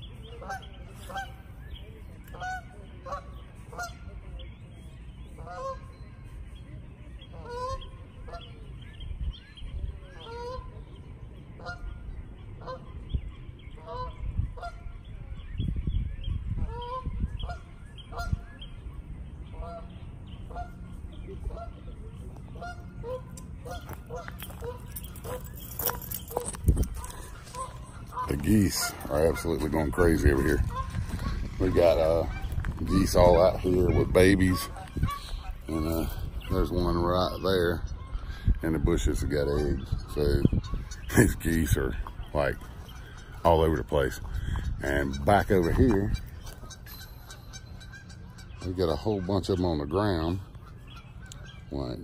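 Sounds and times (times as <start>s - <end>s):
geese honking: 0.2s - 4.2s, 5.4s - 6.0s, 7.3s - 8.7s, 10.1s - 10.9s, 11.5s - 13.0s, 13.7s - 15.1s, 16.6s - 52.0s.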